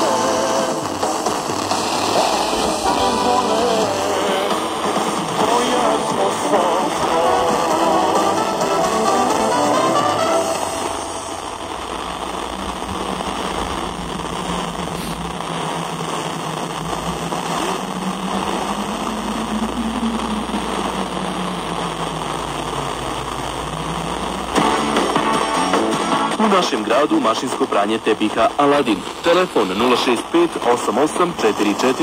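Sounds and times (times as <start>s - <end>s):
radio static hiss: 0.0s - 32.0s
radio station audio: 0.0s - 32.0s.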